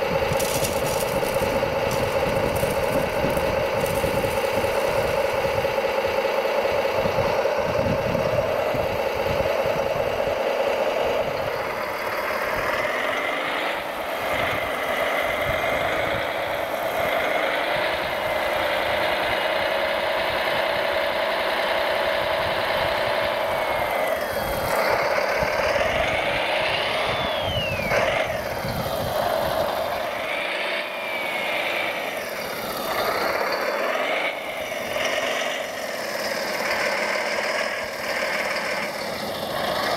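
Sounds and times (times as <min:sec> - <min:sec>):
motors whining in pitch: 0:00.0 - 0:39.9
steady motor drone: 0:00.0 - 0:39.9.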